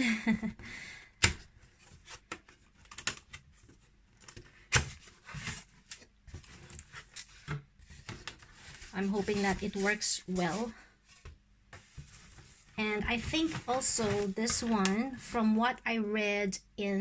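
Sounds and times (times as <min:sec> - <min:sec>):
cardboard and packaging rustling: 0:01.4 - 0:15.1.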